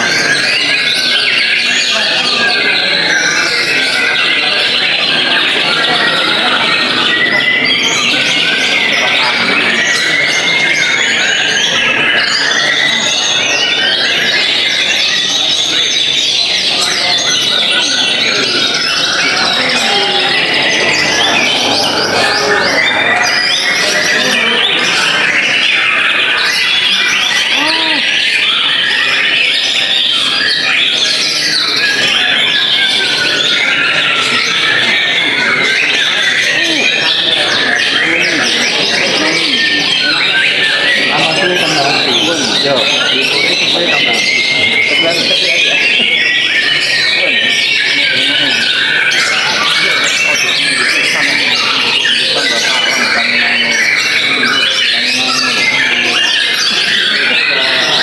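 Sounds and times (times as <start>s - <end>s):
songbirds chorus of whistles and trills: 0.0s - 58.0s.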